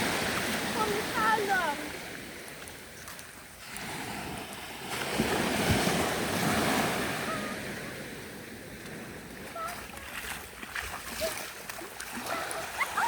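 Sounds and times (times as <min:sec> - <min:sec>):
ocean wave breaking on shore: 0:00.0 - 0:13.0.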